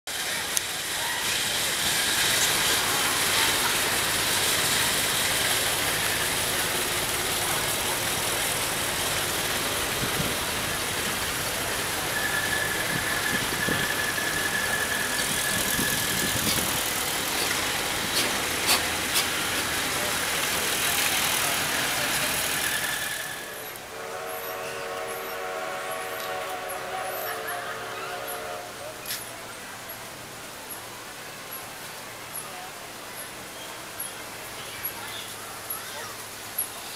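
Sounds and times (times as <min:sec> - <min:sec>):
steam hiss: 0:00.1 - 0:30.1.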